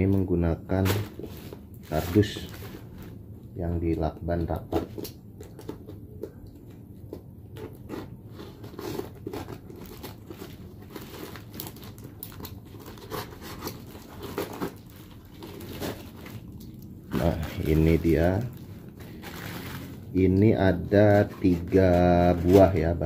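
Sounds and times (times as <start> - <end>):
plastic wrapping crinkling: 0.0 - 23.0.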